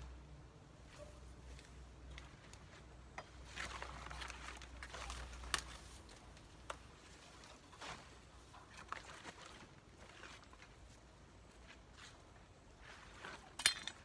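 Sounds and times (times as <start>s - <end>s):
banana leaves rustling: 0.9s - 13.6s.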